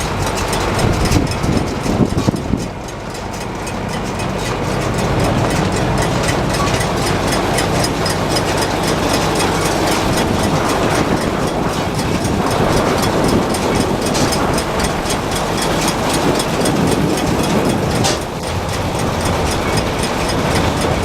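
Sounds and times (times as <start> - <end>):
fast even clicking: 0.0 - 21.0
heavy engine running: 0.0 - 21.0.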